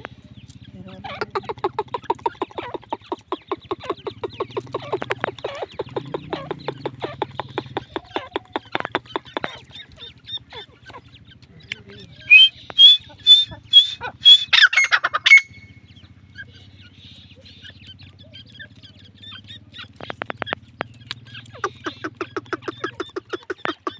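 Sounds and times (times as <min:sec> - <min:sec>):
chicks peeping: 0:00.0 - 0:23.9
bird giving harsh high calls: 0:00.6 - 0:11.2, 0:12.1 - 0:23.9.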